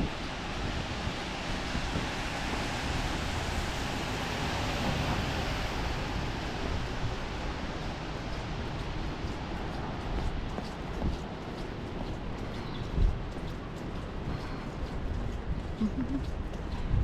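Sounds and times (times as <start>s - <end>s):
rain on wet street: 0.0s - 17.0s.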